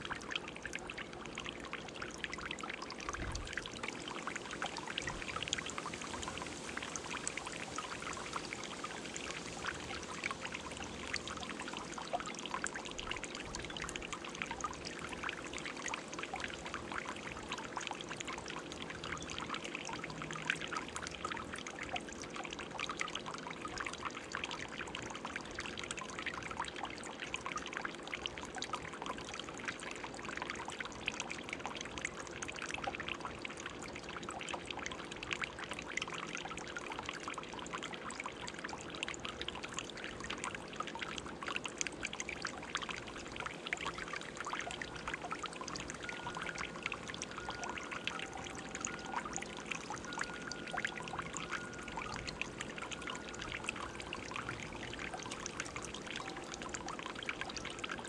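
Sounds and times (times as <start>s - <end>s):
fountain water splashing: 0.0s - 27.9s, 38.0s - 58.0s.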